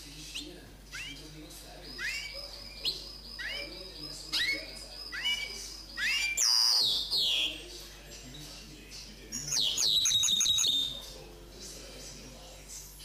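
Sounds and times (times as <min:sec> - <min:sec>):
songbird singing: 0:00.3 - 0:11.3.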